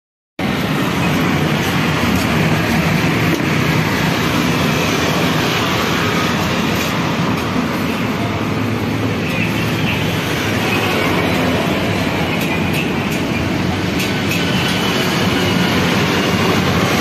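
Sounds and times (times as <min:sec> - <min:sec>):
street traffic passing: 0:00.4 - 0:17.0.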